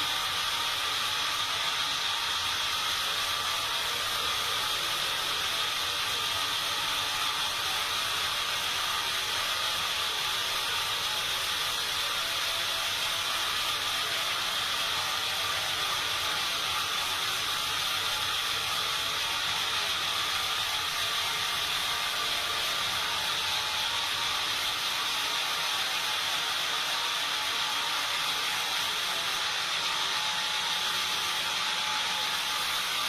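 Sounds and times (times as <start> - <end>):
sawmill machinery hissing: 0.0 - 33.0.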